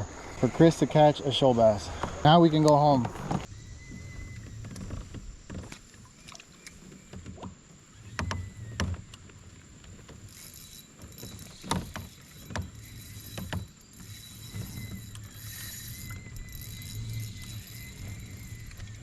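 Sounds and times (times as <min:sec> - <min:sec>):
water and hull rumble: 0:00.0 - 0:19.0.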